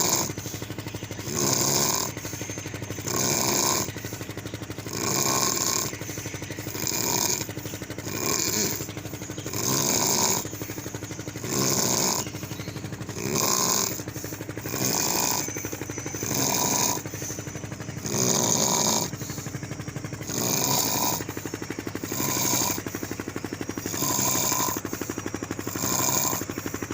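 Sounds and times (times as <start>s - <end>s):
person snoring loudly: 0.0s - 0.6s, 1.2s - 2.4s, 3.0s - 4.2s, 4.8s - 17.4s, 18.0s - 19.5s, 20.2s - 23.1s, 23.8s - 26.9s.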